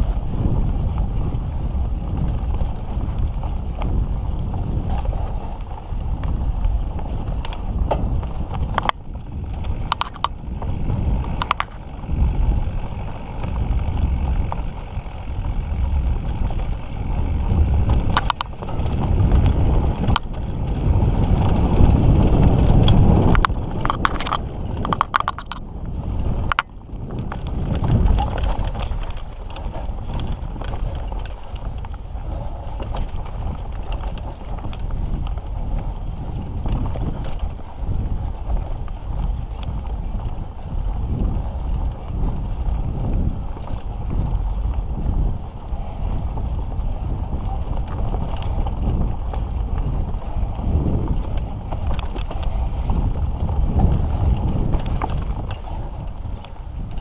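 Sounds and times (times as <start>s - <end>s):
bike chain and frame rattling: 0.0s - 57.0s
bike tyre noise: 0.0s - 57.0s
wind rumble on microphone: 0.0s - 57.0s.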